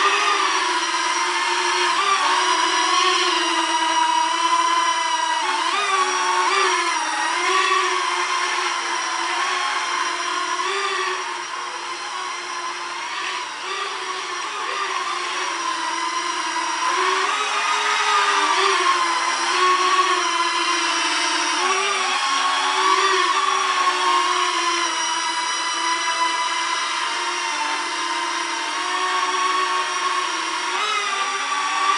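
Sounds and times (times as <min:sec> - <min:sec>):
drone propellers whining: 0:00.0 - 0:27.8.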